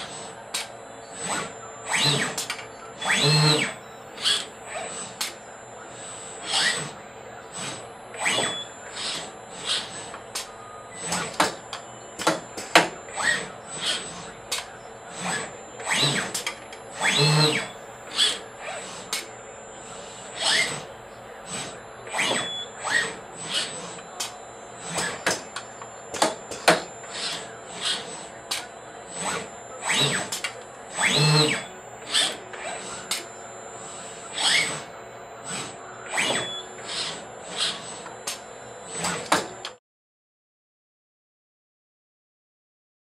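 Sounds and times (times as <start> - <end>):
robot arm servo motors whining: 0.0 - 39.8.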